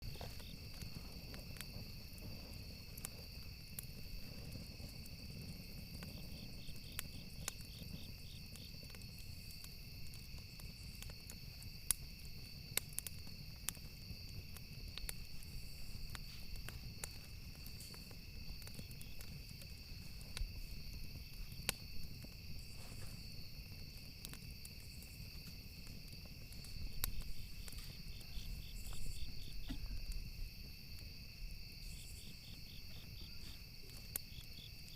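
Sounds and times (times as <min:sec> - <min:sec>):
campfire crackling and popping: 0:00.0 - 0:34.9
crickets chirping: 0:00.0 - 0:34.9.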